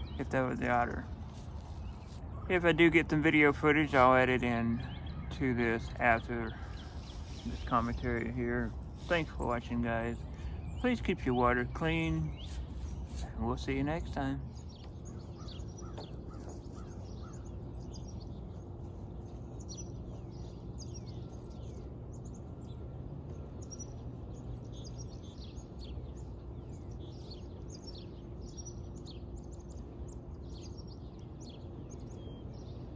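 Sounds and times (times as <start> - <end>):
small birds chirping: 0.0 - 32.9
steady low rumble: 0.0 - 32.9.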